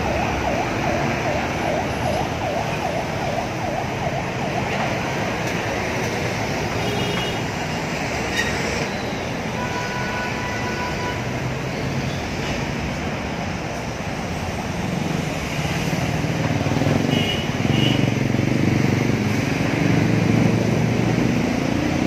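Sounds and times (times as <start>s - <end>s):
car engines and tyres: 0.0s - 22.0s.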